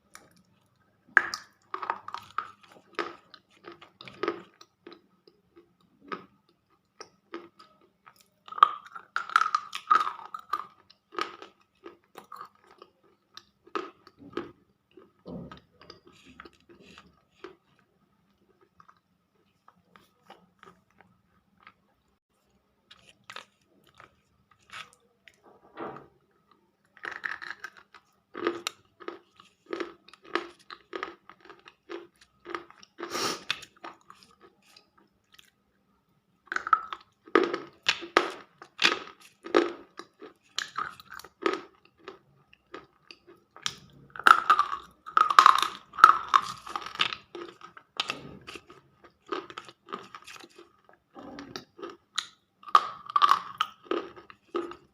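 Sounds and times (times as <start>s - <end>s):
crunchy chewing: 1.4s - 21.8s, 22.9s - 25.4s, 26.5s - 35.6s, 36.5s - 54.9s.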